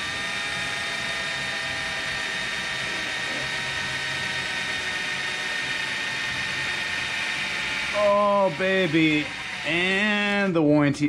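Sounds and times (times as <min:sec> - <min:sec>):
cordless drill whining: 0:00.0 - 0:10.7.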